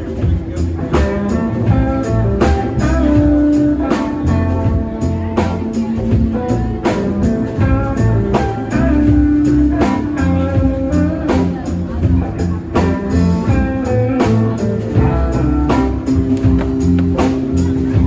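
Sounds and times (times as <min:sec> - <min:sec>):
bass guitar: 0:00.0 - 0:18.0
drum kit beat: 0:00.0 - 0:18.0
electric guitar lines: 0:00.0 - 0:18.0.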